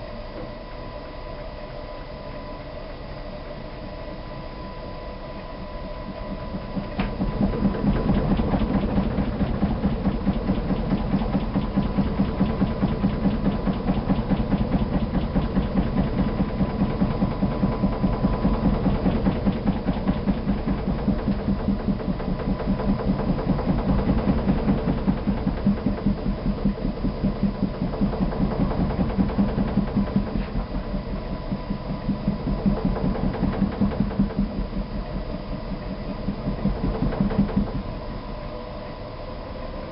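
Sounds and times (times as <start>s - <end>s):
washing machine spinning and knocking: 0.0s - 39.9s.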